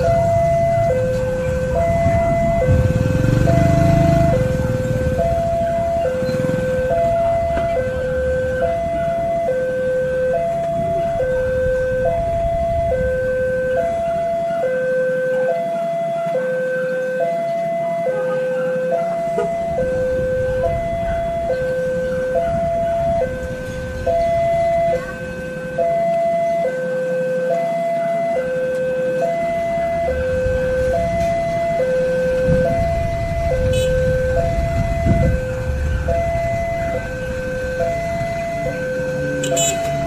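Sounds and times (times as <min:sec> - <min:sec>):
two-tone level-crossing alarm: 0:00.0 - 0:40.0.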